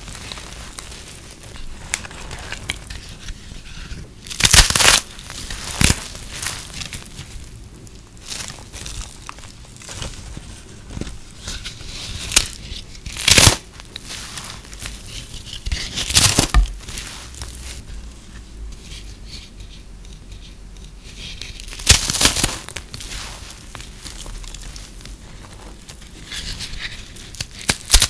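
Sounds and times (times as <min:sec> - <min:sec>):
brittle soap crunching: 0:00.0 - 0:18.1, 0:20.2 - 0:28.0.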